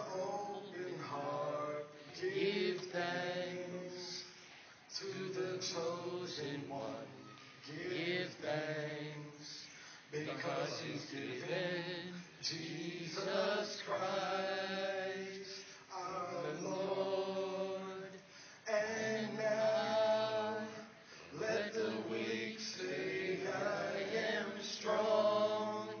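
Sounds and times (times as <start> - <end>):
men singing worship chorus: 0.0 - 26.0.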